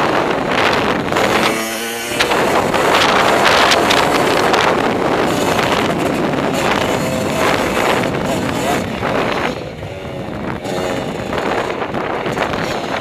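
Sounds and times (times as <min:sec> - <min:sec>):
motocross bike engine: 0:00.0 - 0:13.0
wind buffeting microphone: 0:00.0 - 0:13.0.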